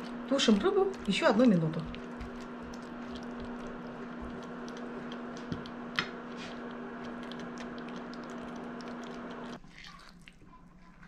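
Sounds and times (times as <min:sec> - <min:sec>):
cooktop hum: 0:00.0 - 0:11.0.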